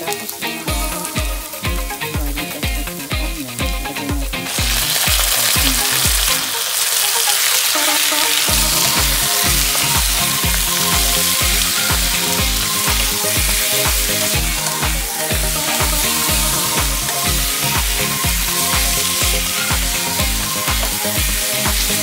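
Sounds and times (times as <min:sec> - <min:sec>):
meat sizzling in wok: 0:00.0 - 0:03.0, 0:04.4 - 0:22.0
background music with beat: 0:00.0 - 0:22.0.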